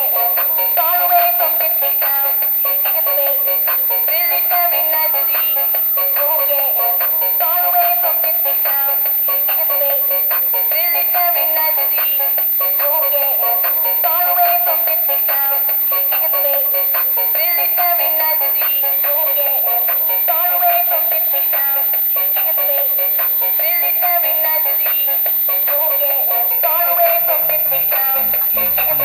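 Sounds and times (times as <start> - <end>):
upbeat electronic music: 0.0 - 29.0.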